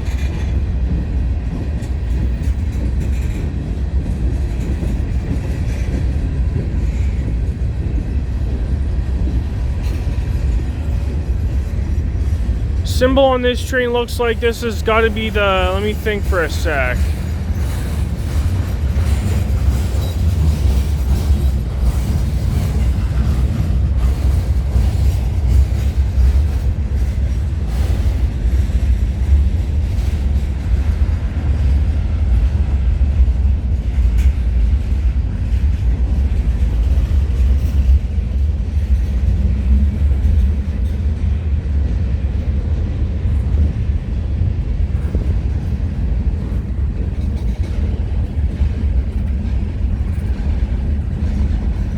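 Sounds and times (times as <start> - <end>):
freight train rumble: 0.0 - 51.9.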